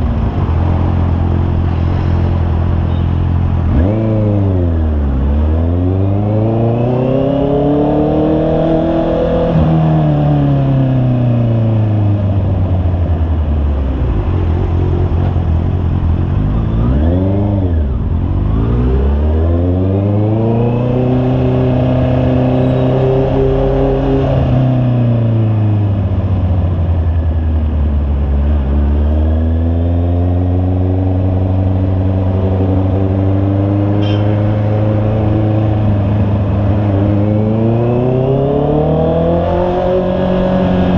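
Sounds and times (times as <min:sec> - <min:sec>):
motorcycle engine revving: 0:00.0 - 0:27.1, 0:27.9 - 0:40.9.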